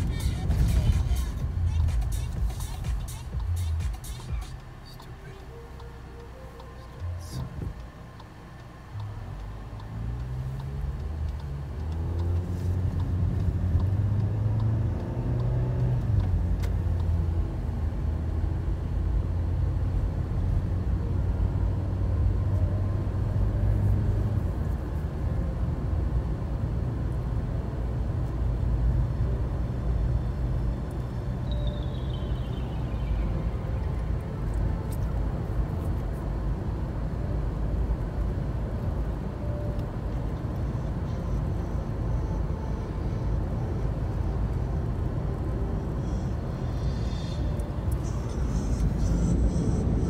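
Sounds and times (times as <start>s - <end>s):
car engine: 0.0s - 50.0s
road rumble: 0.0s - 50.0s.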